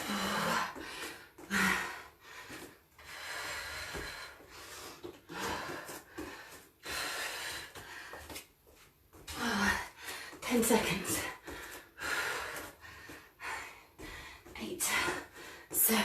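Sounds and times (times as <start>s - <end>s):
woman breathing heavily: 0.0s - 16.0s.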